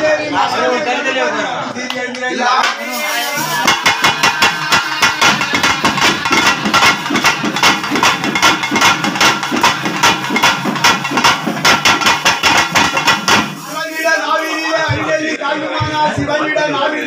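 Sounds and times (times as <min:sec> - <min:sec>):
drums beaten with sticks: 0:02.6 - 0:16.4.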